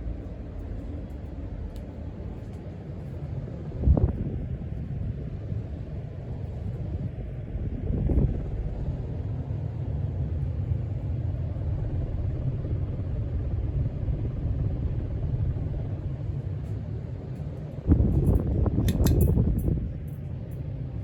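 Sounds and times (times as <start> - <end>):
ceiling fan running: 0.0 - 21.0.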